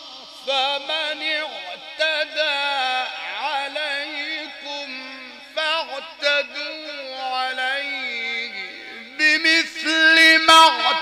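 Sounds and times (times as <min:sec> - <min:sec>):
man chanting melismatic recitation: 0:00.0 - 0:11.0.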